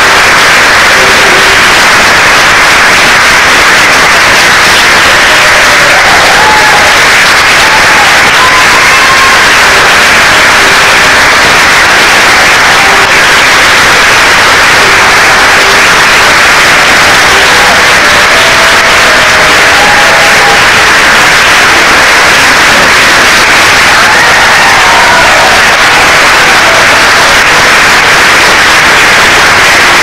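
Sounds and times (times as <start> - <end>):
loud static hiss: 0.0 - 30.0.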